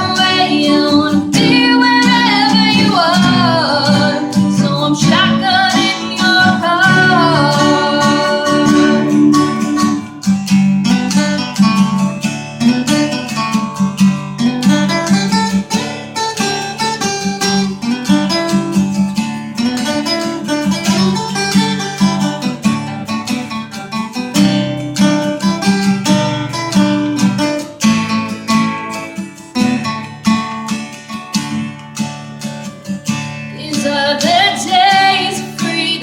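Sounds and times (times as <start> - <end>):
acoustic guitar picking and strumming: 0.0 - 36.0.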